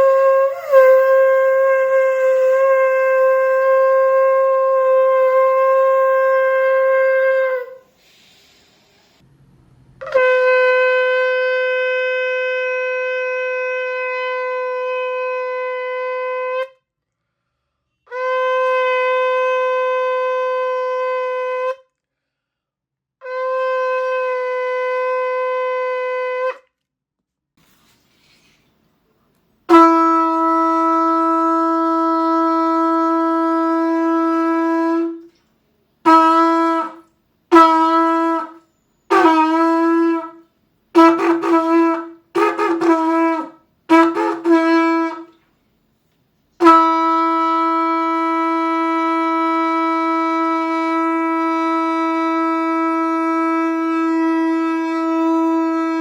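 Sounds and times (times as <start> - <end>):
shofar blasts: 0.0 - 8.0, 10.0 - 16.8, 18.0 - 21.9, 23.2 - 26.7, 29.6 - 35.4, 36.0 - 45.4, 46.6 - 56.0
lower-pitched shofar blasts: 0.0 - 8.2, 10.0 - 16.8, 18.0 - 21.9, 23.2 - 26.7, 29.7 - 35.4, 36.0 - 45.4, 46.6 - 56.0.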